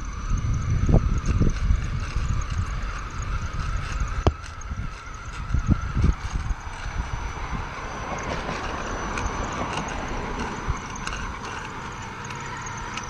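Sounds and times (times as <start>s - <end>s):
electric drivetrain whirring: 0.0s - 13.0s
tyre noise on pavement: 0.7s - 13.0s.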